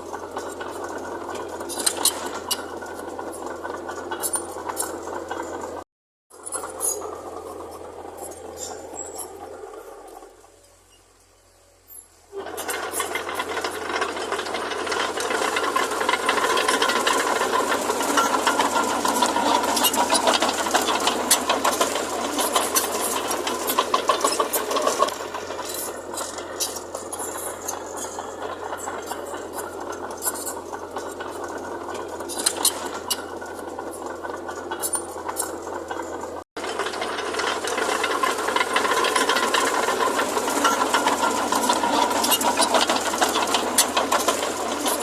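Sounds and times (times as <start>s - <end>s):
heavy machinery rattling: 0.0s - 11.0s, 12.3s - 45.0s.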